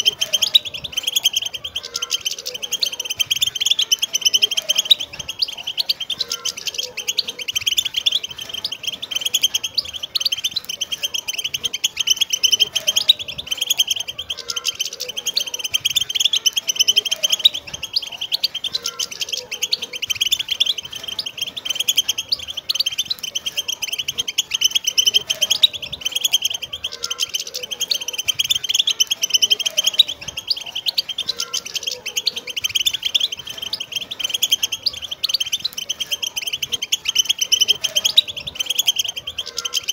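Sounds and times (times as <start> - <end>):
finches twittering and chirping: 0.0 - 39.9.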